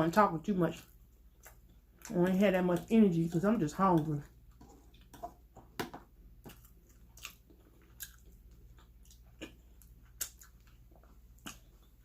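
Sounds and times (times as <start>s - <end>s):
close-miked chewing: 0.6s - 5.5s, 6.4s - 12.0s.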